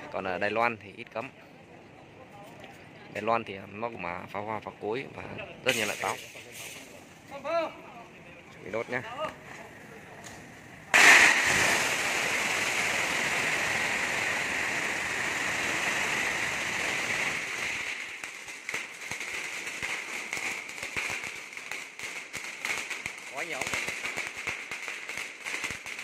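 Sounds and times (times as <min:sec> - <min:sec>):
firecrackers crackling: 0:04.1 - 0:26.0.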